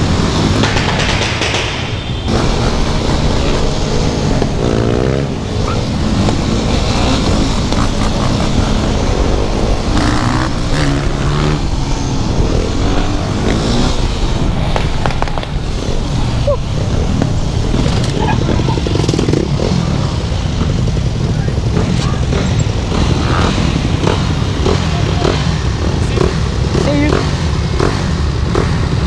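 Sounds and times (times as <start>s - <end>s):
motorcycle engines revving: 0.0s - 29.0s
wind noise: 0.0s - 29.0s.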